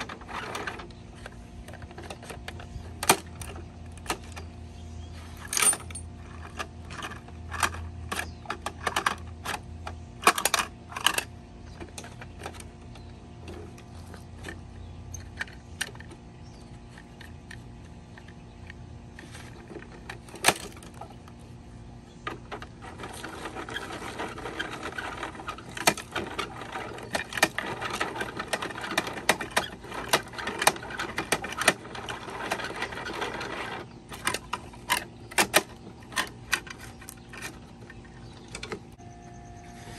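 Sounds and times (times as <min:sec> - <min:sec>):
plastic toy parts clicking and rattling: 0:00.0 - 0:04.5, 0:05.3 - 0:21.4, 0:22.2 - 0:39.0.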